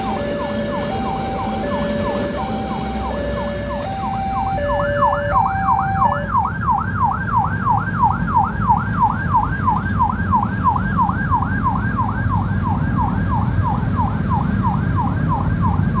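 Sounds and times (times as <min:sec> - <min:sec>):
level crossing warning alarm: 0:00.0 - 0:16.0.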